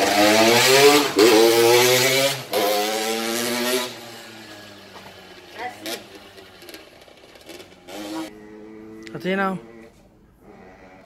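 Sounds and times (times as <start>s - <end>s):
motorbike engine revving: 0.0s - 9.0s.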